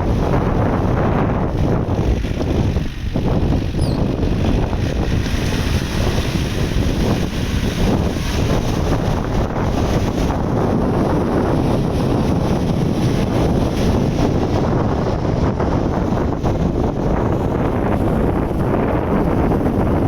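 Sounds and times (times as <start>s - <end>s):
tractor engine rumbling: 0.0s - 20.0s
wind buffeting microphone: 0.0s - 20.0s.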